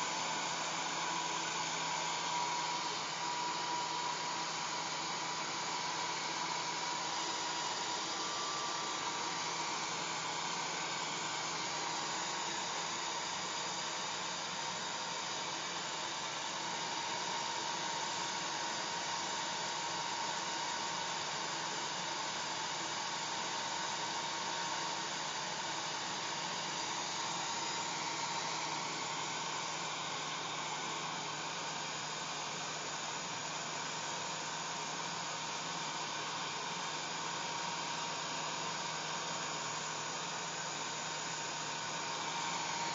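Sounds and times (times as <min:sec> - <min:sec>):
hair dryer running: 0:00.0 - 0:42.9.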